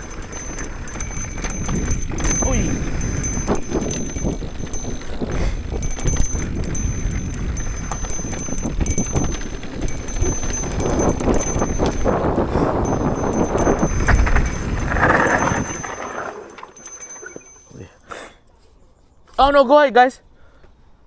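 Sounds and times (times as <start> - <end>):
bike rattling and knocking: 0.0 - 17.7
tyres rumbling over dirt and rocks: 0.0 - 17.8.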